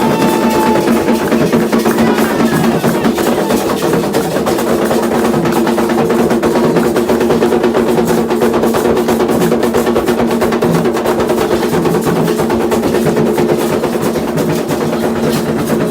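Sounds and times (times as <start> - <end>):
fast hand drumming: 0.0 - 15.9.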